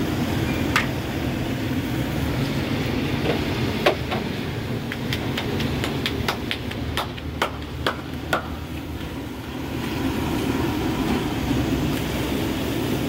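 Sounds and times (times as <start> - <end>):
burner rumble: 0.0 - 13.0
dough sizzling in hot oil: 0.0 - 13.0.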